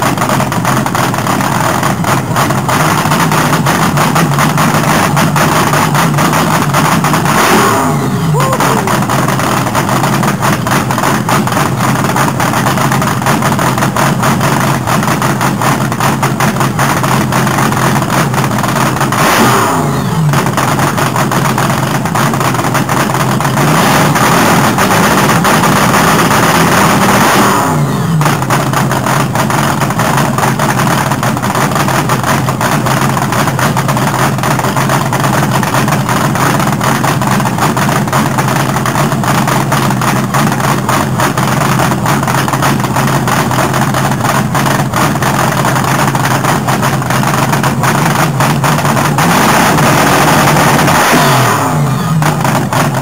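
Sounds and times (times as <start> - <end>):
car engine running and revving: 0.0 - 53.0.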